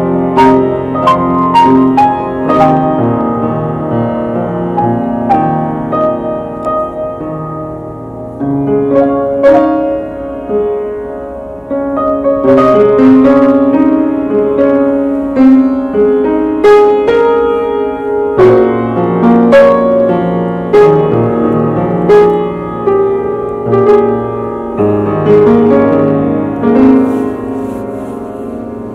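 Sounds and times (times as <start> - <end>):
piano melody: 0.0 - 28.9.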